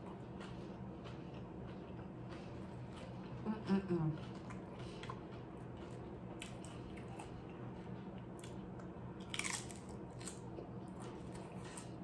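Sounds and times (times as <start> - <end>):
chewing crunchy nachos: 0.0 - 3.5, 4.2 - 12.0.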